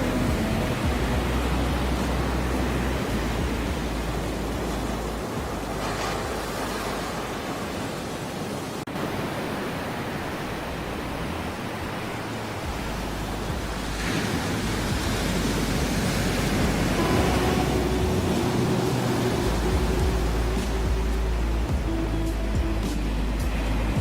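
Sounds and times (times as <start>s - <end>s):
ocean waves washing: 0.0s - 24.0s.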